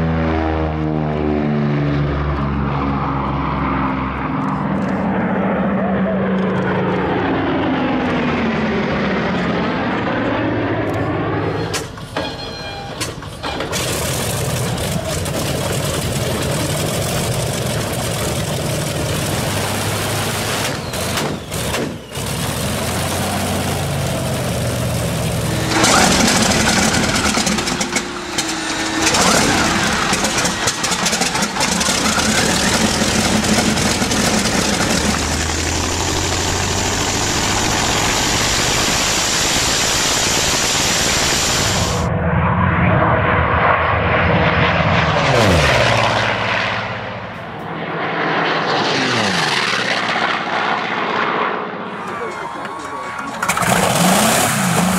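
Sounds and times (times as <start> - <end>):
radial aircraft engines running: 0.0 - 54.9.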